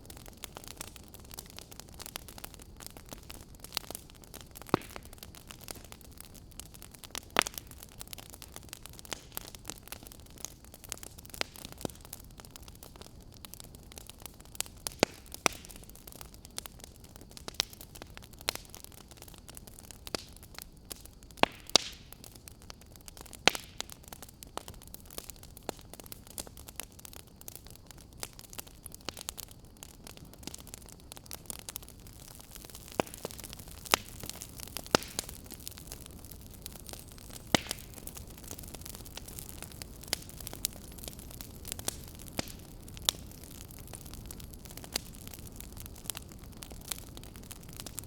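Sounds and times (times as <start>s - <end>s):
low hiss and rumble of flames: 0.0s - 48.0s
wood fire crackling: 0.0s - 48.0s.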